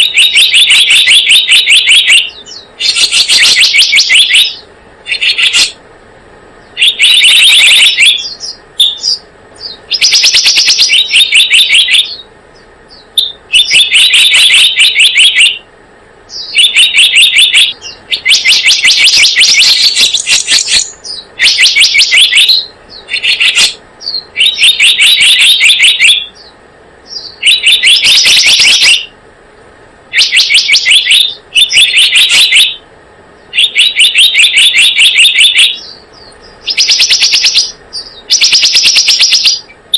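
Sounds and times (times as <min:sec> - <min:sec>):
bird rapid chirping: 0:00.0 - 0:05.8, 0:06.6 - 0:15.7, 0:16.3 - 0:29.2, 0:30.1 - 0:39.9.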